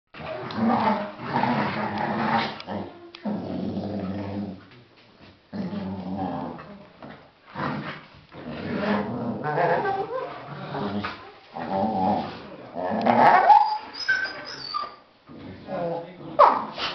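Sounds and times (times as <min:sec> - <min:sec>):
dogs growling: 0:00.2 - 0:04.8, 0:05.5 - 0:14.5.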